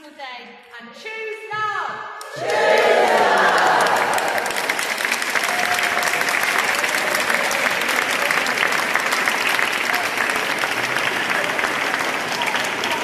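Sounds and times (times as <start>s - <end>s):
crowd applauding: 2.2s - 13.0s.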